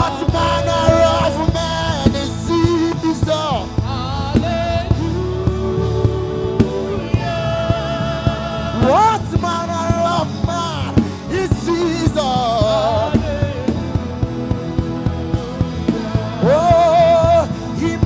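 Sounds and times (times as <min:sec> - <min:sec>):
person singing with vibrato: 0:00.0 - 0:18.0
steady drum beat: 0:00.0 - 0:18.0
sustained keyboard chords: 0:00.0 - 0:18.0.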